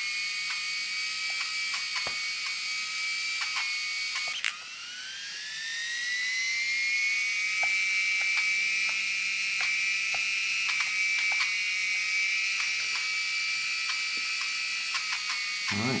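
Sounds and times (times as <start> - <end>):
toy motor and gears whining: 0.0 - 16.0.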